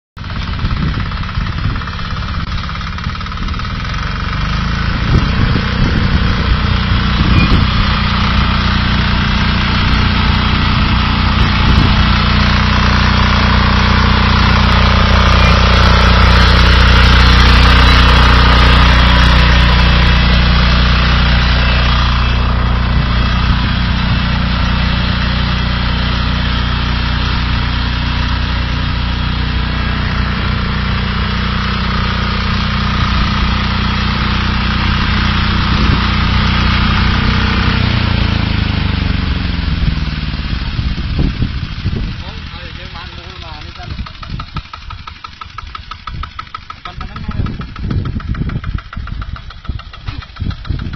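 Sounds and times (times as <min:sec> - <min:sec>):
walk-behind tractor engine running: 0:00.2 - 0:50.9.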